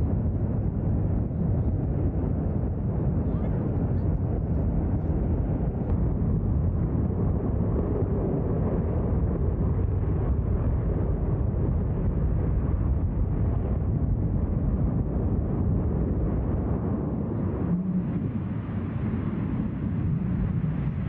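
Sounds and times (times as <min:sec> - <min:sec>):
rocket engine deep rumble: 0:00.0 - 0:21.0.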